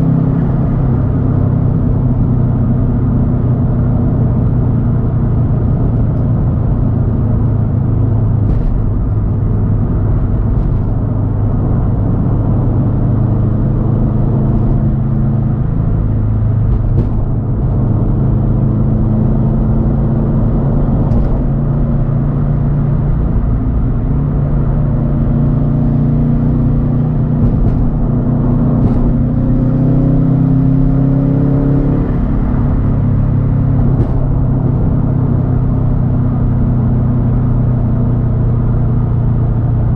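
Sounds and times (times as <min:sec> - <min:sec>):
loud car engine while driving: 0:00.0 - 0:39.9.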